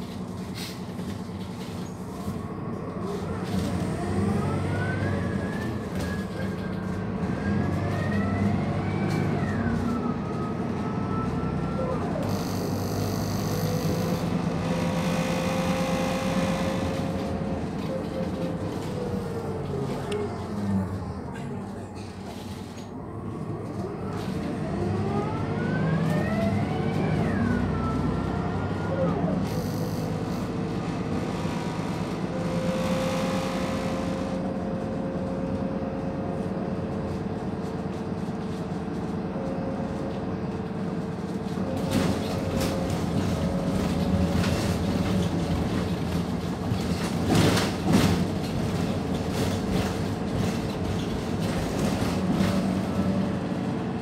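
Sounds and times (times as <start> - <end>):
bus engine and gearbox: 0.0 - 54.0.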